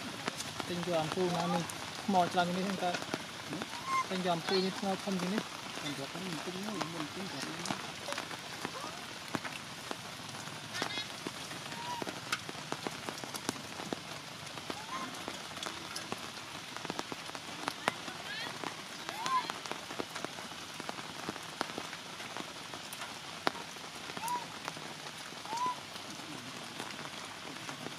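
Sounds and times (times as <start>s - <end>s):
heavy rain hissing: 0.0s - 27.9s
water drips: 0.0s - 27.9s.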